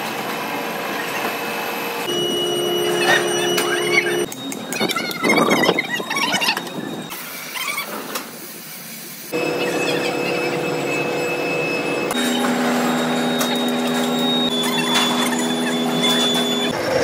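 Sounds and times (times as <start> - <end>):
industrial machine hum: 0.0 - 7.1, 9.3 - 17.0.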